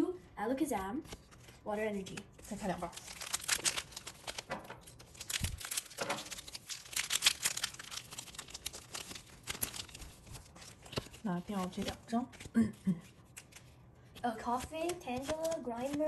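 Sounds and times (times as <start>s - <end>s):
foil wrappers crinkling: 1.0s - 13.8s, 14.4s - 16.0s.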